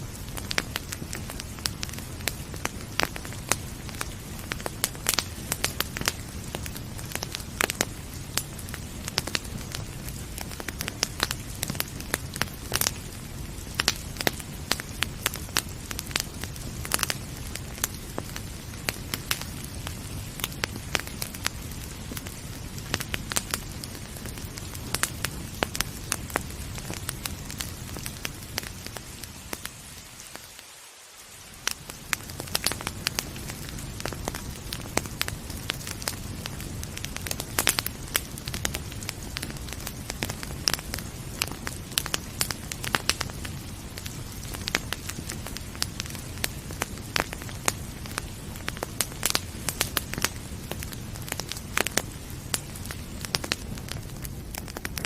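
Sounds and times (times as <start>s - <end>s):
steady hiss: 0.0s - 55.0s
wood fire crackling and popping: 0.0s - 55.0s.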